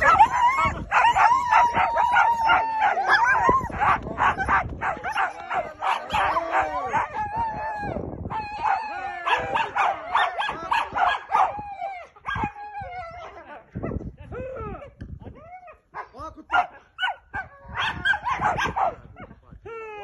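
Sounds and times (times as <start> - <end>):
dogs yelping howling and barking: 0.0 - 19.0.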